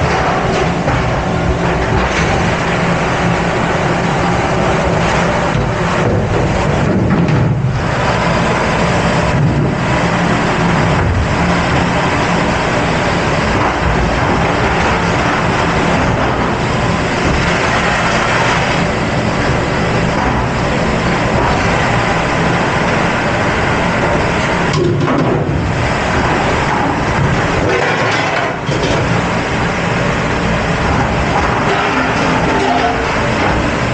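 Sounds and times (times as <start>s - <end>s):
dishwasher pumps and water spray: 0.0s - 33.9s.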